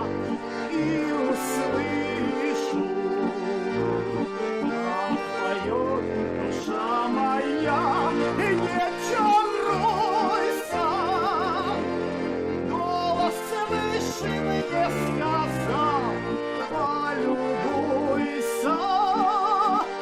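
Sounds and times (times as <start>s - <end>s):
folk music with accordion: 0.0s - 20.0s.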